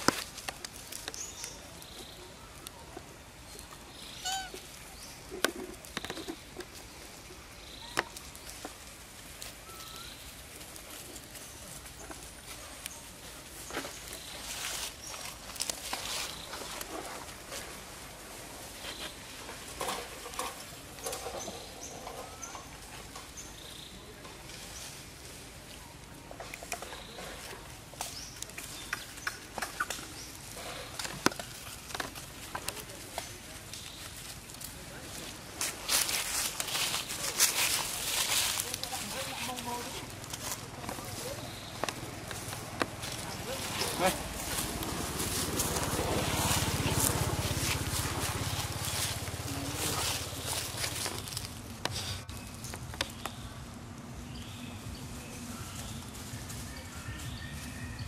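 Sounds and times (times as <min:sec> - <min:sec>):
clicks and crackles on dry leaves: 0:00.0 - 0:58.0.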